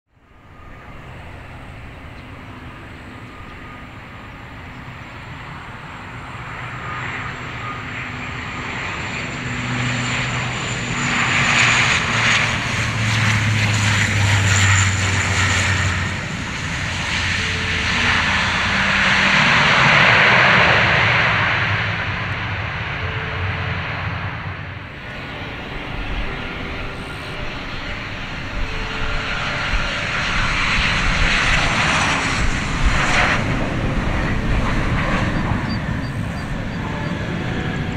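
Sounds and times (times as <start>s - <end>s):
jet approach noise: 0.1s - 37.9s
turboprop propeller drone: 0.1s - 37.9s.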